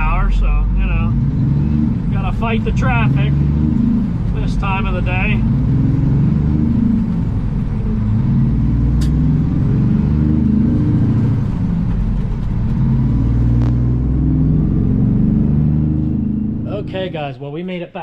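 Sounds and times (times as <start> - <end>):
heavy truck engine: 0.0 - 17.8.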